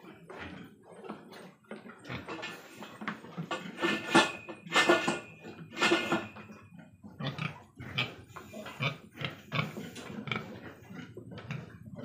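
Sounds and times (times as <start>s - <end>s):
pigs grunting: 0.0s - 6.3s, 7.1s - 12.0s.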